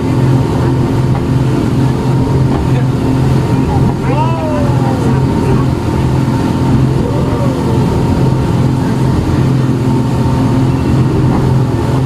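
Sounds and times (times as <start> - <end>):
speedboat engine droning: 0.0 - 12.0.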